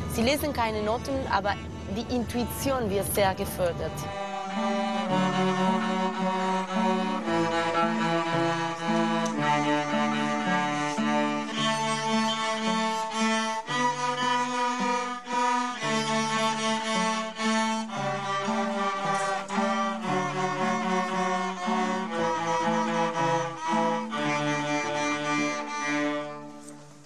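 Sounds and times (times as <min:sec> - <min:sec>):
cellos playing bowed notes: 0:00.0 - 0:27.0.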